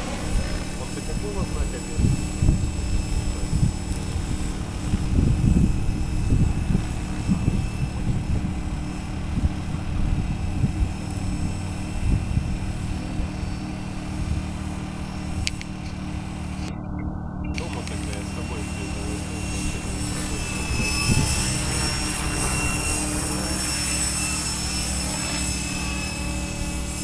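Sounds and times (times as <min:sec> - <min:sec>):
low rumbling: 0:00.0 - 0:27.0
model helicopter motor whine: 0:00.0 - 0:27.0.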